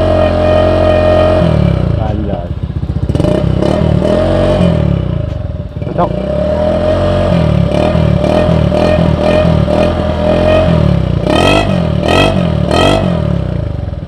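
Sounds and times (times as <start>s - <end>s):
scooter engine running loud: 0.0s - 14.0s.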